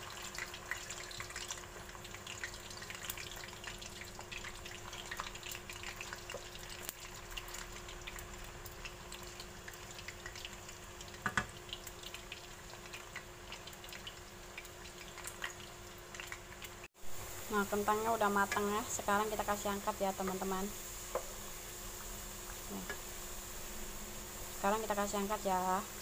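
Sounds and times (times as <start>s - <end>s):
potatoes deep-frying in oil: 0.0s - 26.0s.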